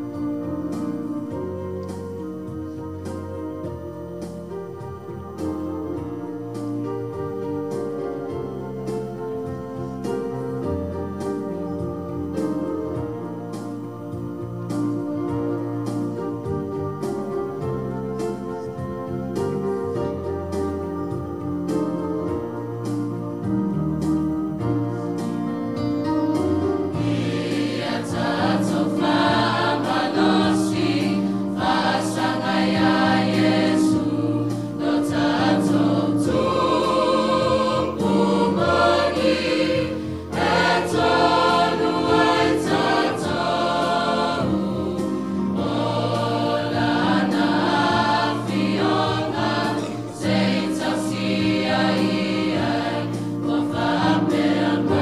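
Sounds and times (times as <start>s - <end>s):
choir singing a hymn: 0.0s - 25.5s, 26.1s - 55.0s.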